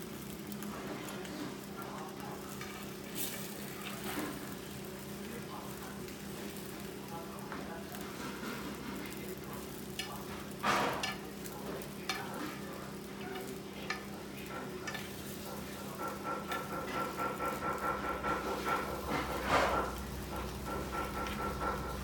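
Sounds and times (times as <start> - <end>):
food sizzling softly: 0.0 - 22.0.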